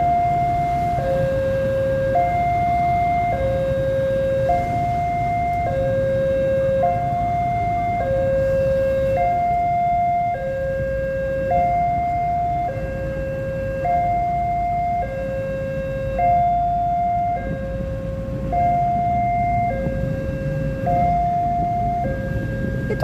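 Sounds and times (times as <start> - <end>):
two-tone crossing alarm: 0.0 - 23.0.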